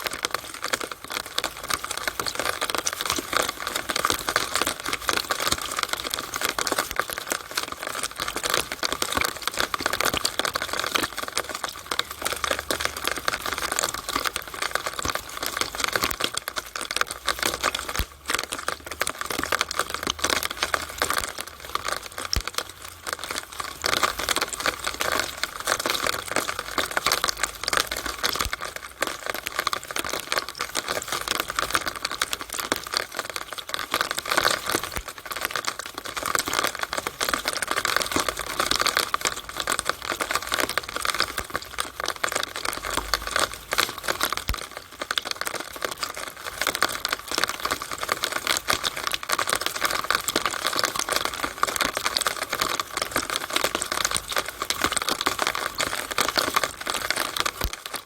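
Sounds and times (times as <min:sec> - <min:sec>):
rainwater splashing through downspout: 0:00.0 - 0:58.0.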